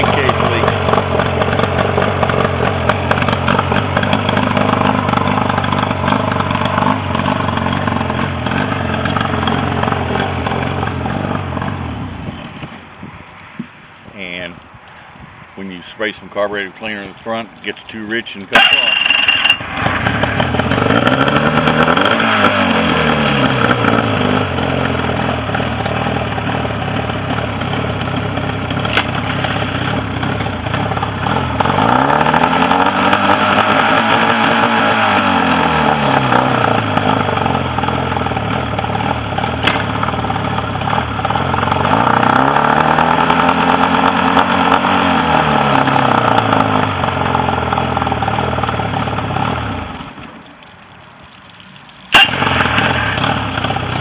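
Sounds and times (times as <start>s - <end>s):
outboard engine revving and idling: 0.0s - 13.0s, 15.6s - 50.4s, 52.1s - 54.0s.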